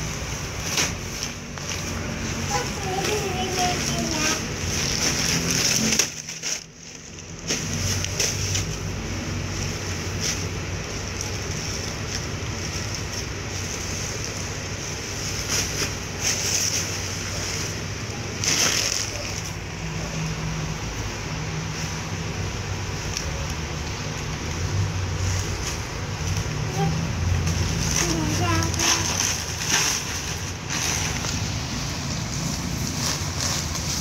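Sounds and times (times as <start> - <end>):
plastic bag crinkling: 0.1 - 20.0, 25.2 - 34.0.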